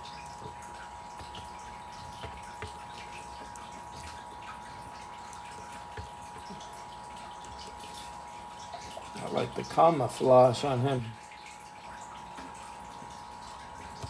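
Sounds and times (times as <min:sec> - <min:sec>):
steady high hum and hiss: 0:00.0 - 0:14.0.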